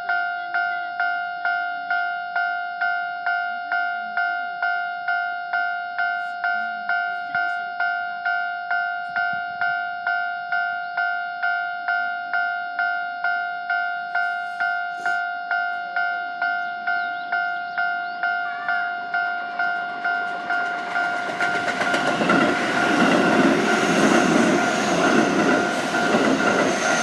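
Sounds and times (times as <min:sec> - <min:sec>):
level-crossing warning bell: 0:00.0 - 0:27.0.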